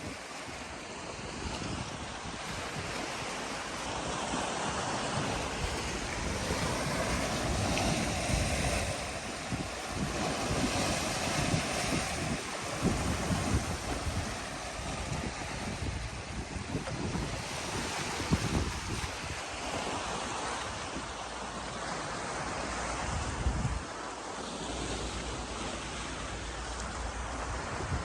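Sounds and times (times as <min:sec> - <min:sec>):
waves washing in: 0:00.0 - 0:28.0
wind rumbling on microphone: 0:00.0 - 0:28.0.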